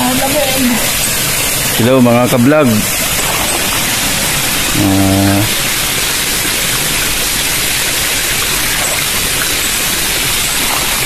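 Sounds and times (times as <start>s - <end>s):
river and waterfall rushing: 0.0s - 11.0s.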